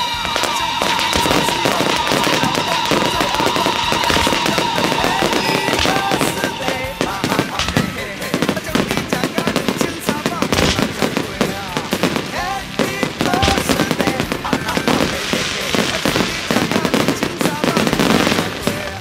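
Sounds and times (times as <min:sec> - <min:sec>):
fireworks crackling: 0:00.0 - 0:19.0
music: 0:00.0 - 0:19.0
voices: 0:00.0 - 0:19.0.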